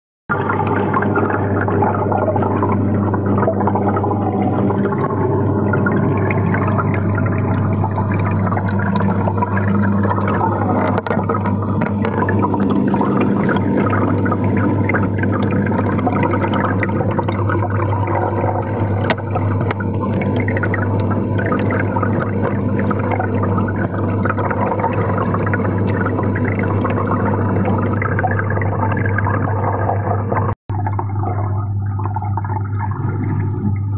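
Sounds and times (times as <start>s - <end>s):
aquarium air bubbles gurgling: 0.3s - 33.9s
low pump hum: 0.3s - 33.9s.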